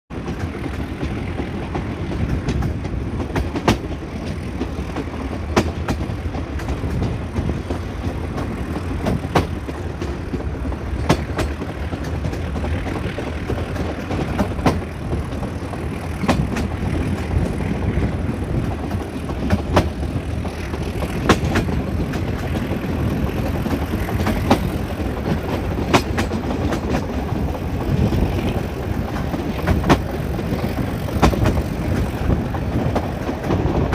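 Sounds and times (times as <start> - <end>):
train wheels rumbling on rail: 0.1 - 33.9
wheels clacking over rail joints: 0.1 - 33.9.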